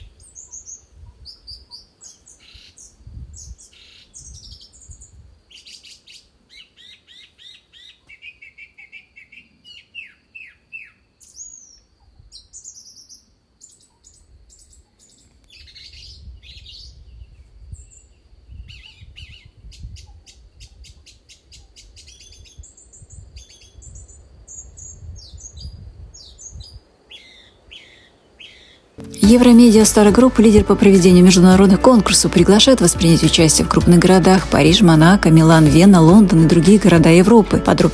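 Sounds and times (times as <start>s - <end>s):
songbirds singing: 0.0s - 30.6s.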